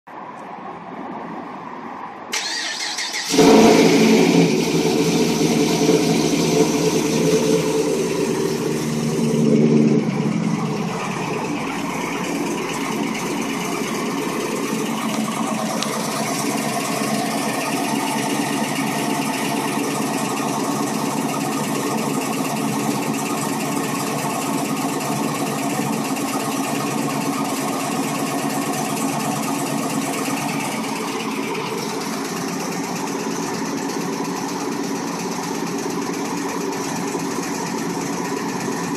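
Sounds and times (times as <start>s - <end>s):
car engine idling: 2.3s - 38.9s
rapid engine ticking: 2.4s - 38.9s.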